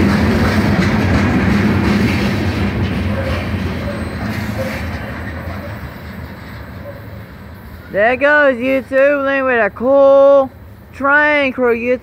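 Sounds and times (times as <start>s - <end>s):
freight train wheels on rail: 0.0s - 12.0s.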